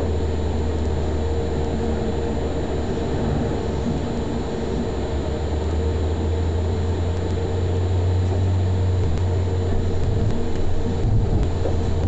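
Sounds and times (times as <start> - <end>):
tram rolling on rails: 0.0 - 12.0.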